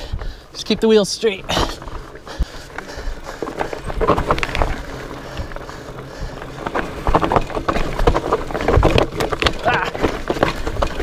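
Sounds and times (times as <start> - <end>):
bike rattling over rocks: 0.0 - 11.0.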